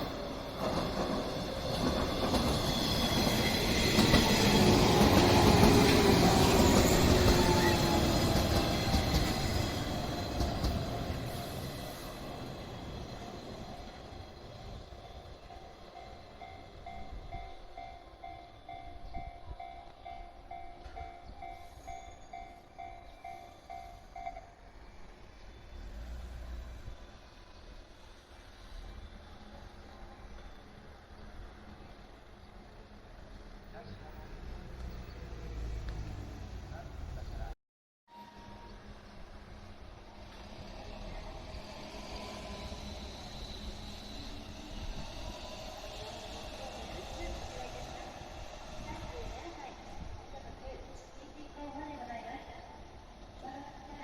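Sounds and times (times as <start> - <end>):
train running on rails: 0.0 - 37.5, 38.1 - 54.0.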